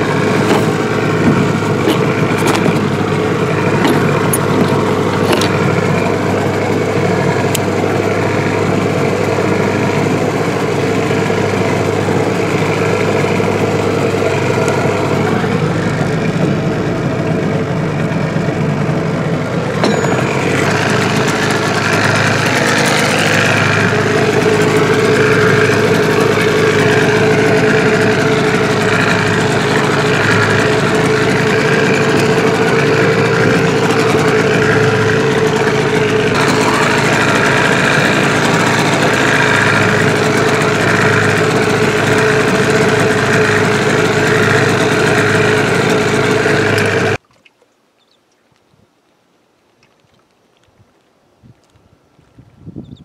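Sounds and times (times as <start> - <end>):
outboard motor running: 0.0 - 47.2.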